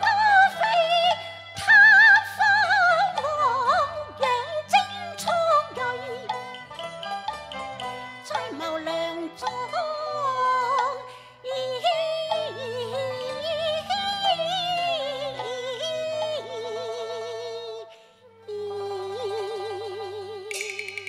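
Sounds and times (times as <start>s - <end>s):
opera music with sliding melody: 0.0s - 21.0s.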